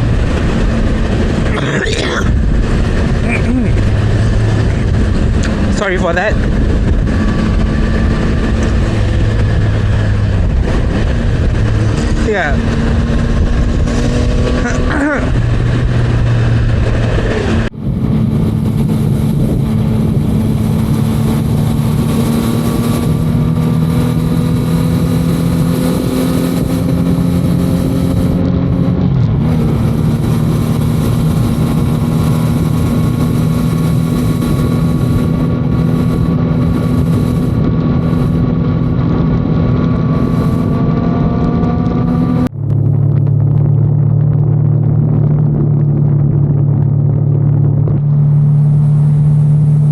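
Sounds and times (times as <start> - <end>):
motorcycle engine running: 0.0 - 49.9
wind rush: 0.0 - 49.9.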